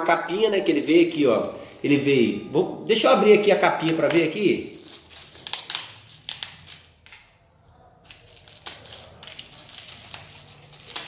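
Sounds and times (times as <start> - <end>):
plastic film crinkling: 0.0 - 2.5, 3.2 - 11.0.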